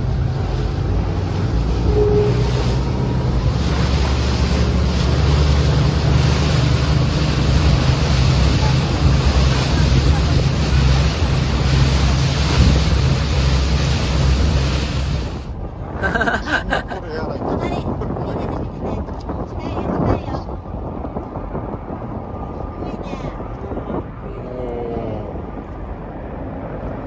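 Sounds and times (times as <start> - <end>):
boat engine humming: 0.0 - 27.0
water rushing along hull: 0.0 - 27.0
wind noise on microphone: 0.0 - 27.0.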